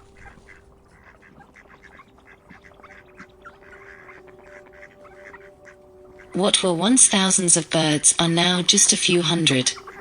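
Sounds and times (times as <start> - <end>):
distant flock of birds calling: 0.0 - 10.0.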